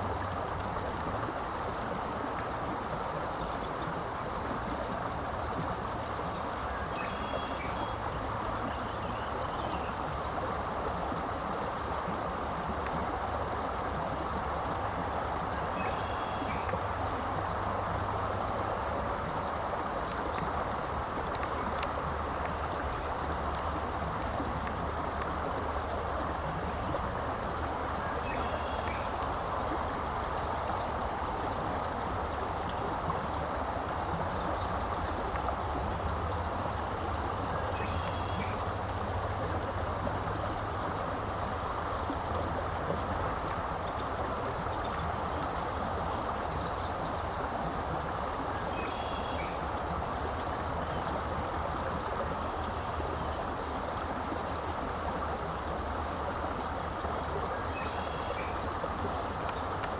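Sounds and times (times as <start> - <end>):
flowing water: 0.0 - 59.9.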